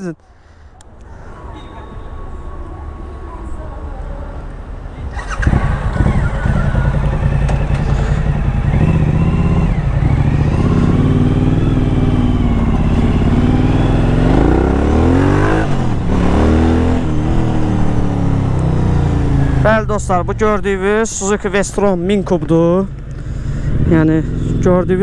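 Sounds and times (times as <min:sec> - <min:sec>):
motorcycle engine revving: 0:04.7 - 0:25.0.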